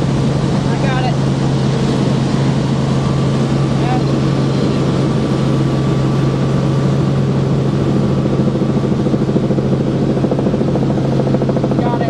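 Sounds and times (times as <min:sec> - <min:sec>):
helicopter cabin drone: 0:00.0 - 0:12.0.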